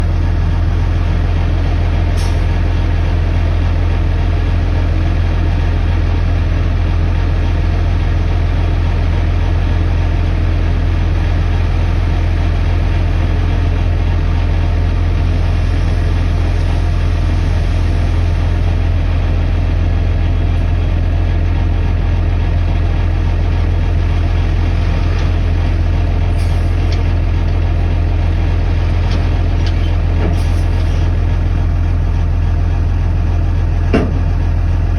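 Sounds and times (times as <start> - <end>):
heavy machine engine idling: 0.0 - 34.9.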